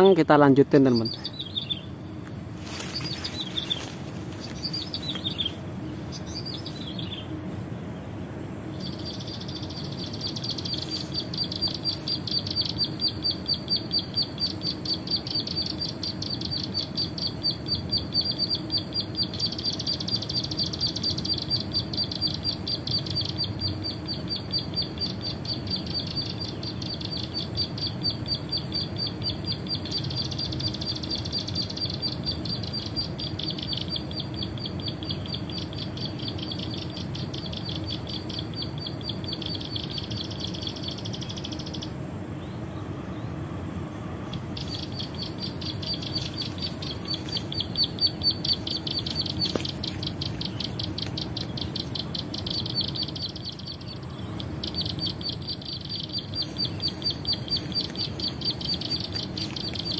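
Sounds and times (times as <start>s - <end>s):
recorded bird song trill: 0.0s - 59.9s.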